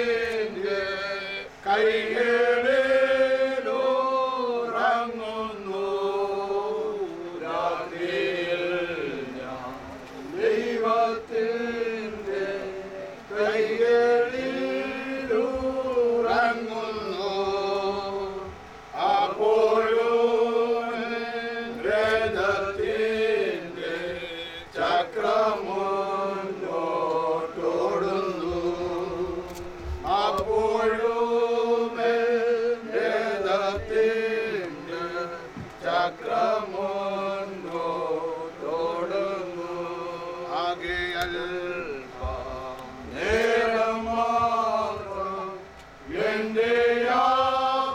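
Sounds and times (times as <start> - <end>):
group singing a slow hymn: 0.0 - 47.9.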